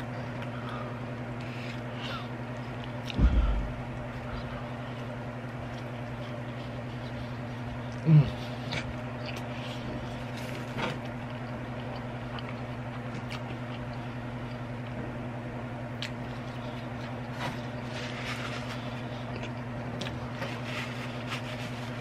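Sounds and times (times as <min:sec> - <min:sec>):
person chewing: 0:00.0 - 0:15.0, 0:15.9 - 0:22.0
steady low hum: 0:00.0 - 0:22.0.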